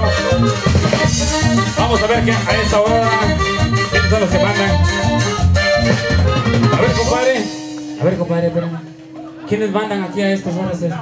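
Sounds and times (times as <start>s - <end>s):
accordion melody: 0.0s - 11.0s
bass notes: 0.0s - 11.0s.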